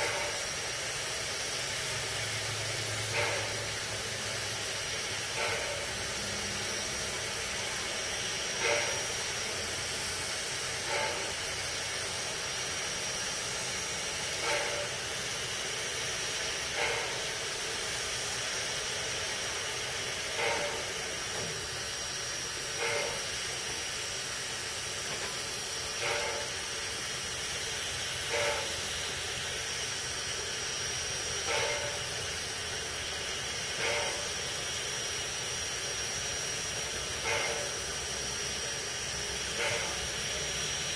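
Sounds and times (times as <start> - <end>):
steam hissing with high tone: 0.0 - 40.9
steam puffs: 0.0 - 40.9.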